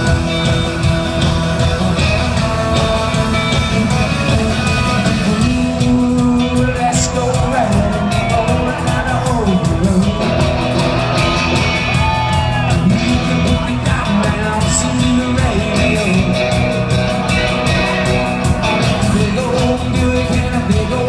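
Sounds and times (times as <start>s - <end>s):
live rock band playing loudly: 0.0s - 21.0s.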